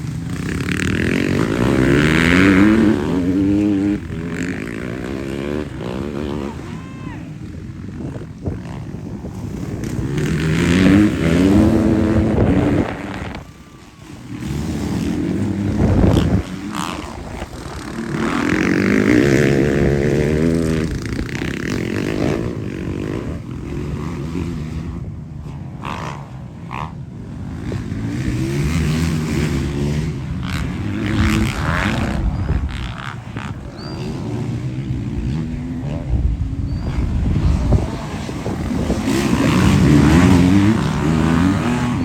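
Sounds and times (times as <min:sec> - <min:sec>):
motocross bikes racing: 0:00.0 - 0:42.0.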